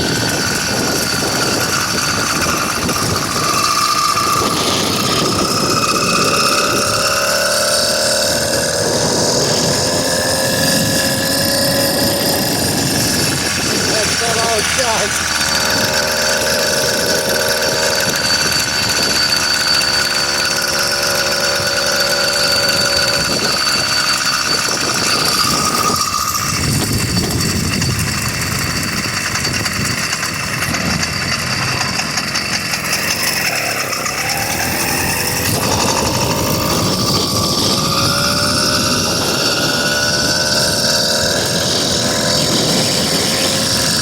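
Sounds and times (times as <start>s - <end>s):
two-stroke engine running: 0.0s - 44.0s.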